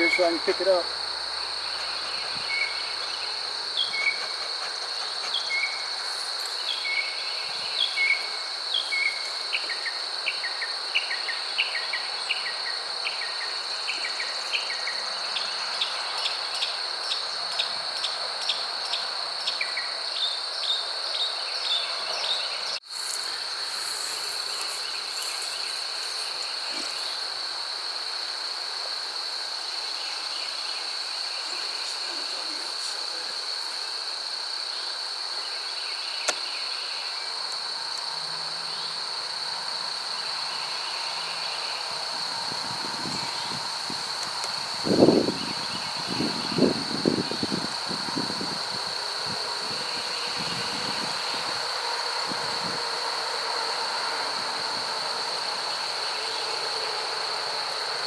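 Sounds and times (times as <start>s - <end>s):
high-pitched insect trill: 0.0s - 58.0s.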